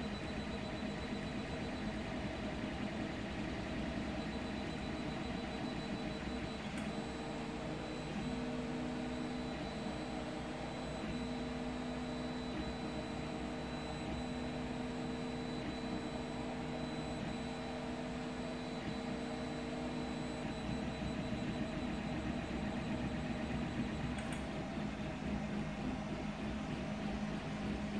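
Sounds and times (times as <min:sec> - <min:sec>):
printer fans whirring: 0:00.0 - 0:27.9.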